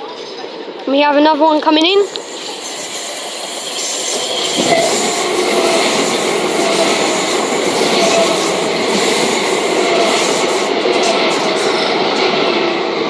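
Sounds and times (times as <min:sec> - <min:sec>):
electric train pulling in: 0:01.8 - 0:13.0.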